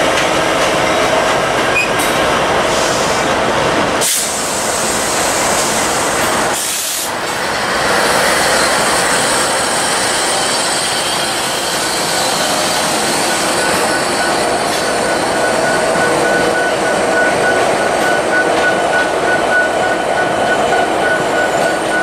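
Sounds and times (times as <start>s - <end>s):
diesel locomotive engines: 0.0s - 22.0s
train wheels rolling on rails: 0.0s - 22.0s.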